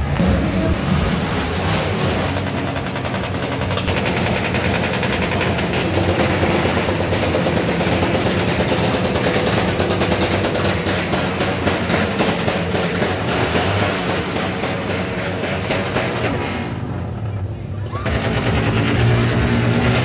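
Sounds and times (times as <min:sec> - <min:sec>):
loud vehicle engine running: 0:00.0 - 0:20.0.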